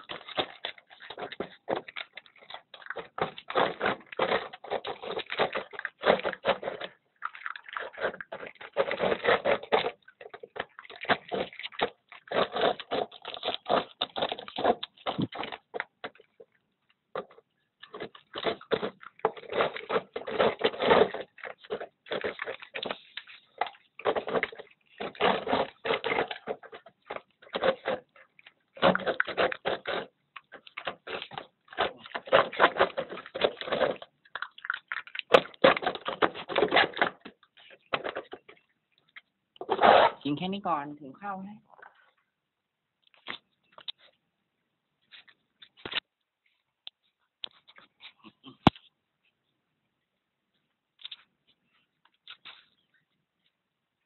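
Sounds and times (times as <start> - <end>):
dogs crunching dog food: 0.0 - 40.6, 50.9 - 54.0.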